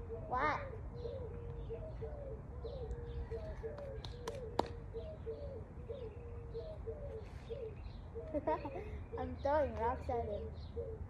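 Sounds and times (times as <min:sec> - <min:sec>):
faint high bird chirps: 0:00.0 - 0:11.0
low repeated bird call: 0:00.0 - 0:11.0.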